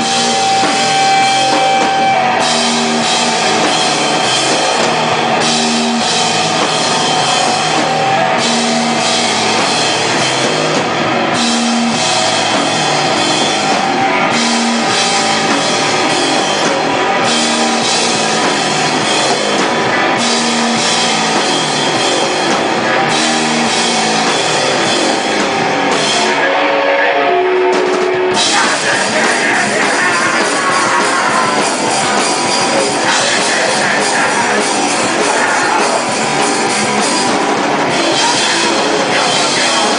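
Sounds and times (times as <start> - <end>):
drums: 0.0 - 39.9
hardcore band playing live: 0.0 - 39.9.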